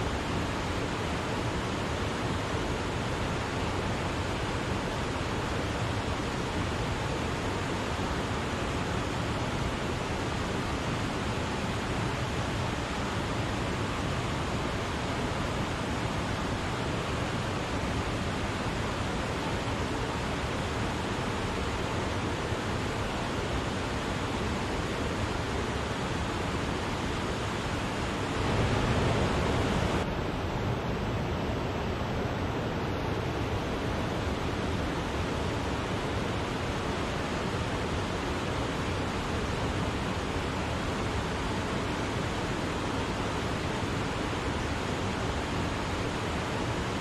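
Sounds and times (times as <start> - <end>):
waterfall roaring: 0.0 - 47.0.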